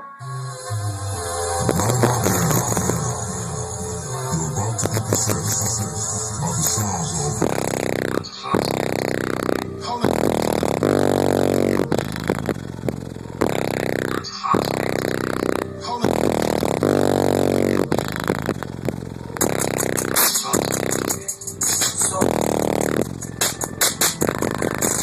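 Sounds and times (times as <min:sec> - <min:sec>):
loud bass-heavy music: 0:00.0 - 0:25.0.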